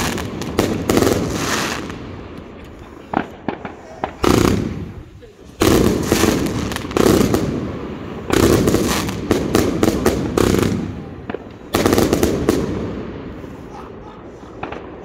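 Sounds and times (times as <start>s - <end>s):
firework bangs: 0.0s - 15.0s
firework crackle: 0.0s - 15.0s.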